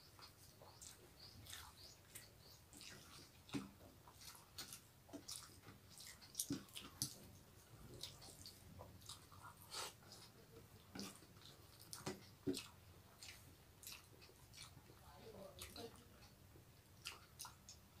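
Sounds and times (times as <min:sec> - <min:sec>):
hands mixing rice on plates: 0:00.0 - 0:17.9
wet chewing: 0:00.0 - 0:18.0.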